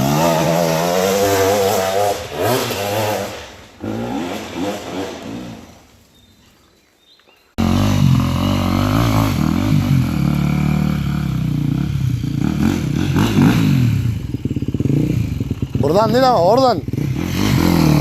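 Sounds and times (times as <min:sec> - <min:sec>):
dirt bike engine revving: 0:00.0 - 0:05.8, 0:07.6 - 0:18.0.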